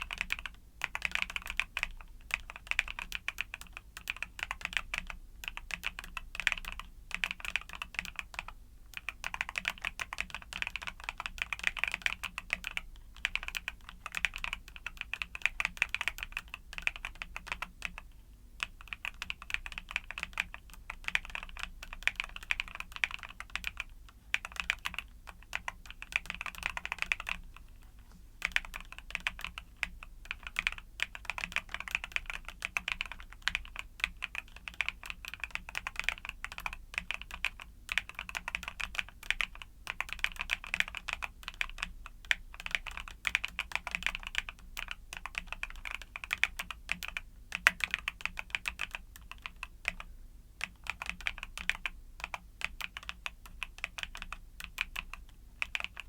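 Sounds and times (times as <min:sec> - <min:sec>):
mechanical keyboard typing: 0:00.0 - 0:27.7, 0:28.4 - 0:56.0.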